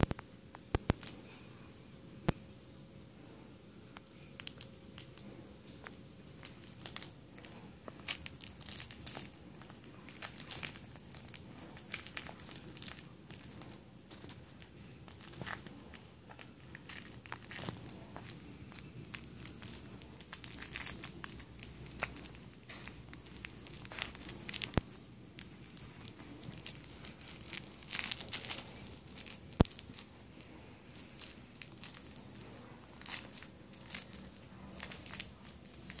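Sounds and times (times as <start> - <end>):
plush toy crinkling and rustling: 0.0 - 2.4, 3.8 - 36.0
puppy chewing: 4.5 - 36.0.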